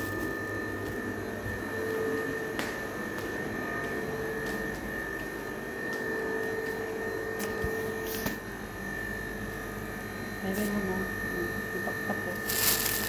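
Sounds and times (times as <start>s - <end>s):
machine hum with whine: 0.0s - 13.0s.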